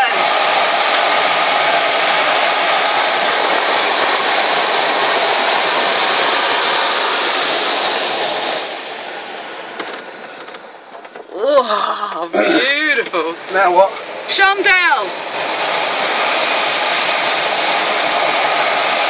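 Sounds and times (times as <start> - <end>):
rush of airflow over canopy: 0.0 - 10.9, 12.4 - 19.0.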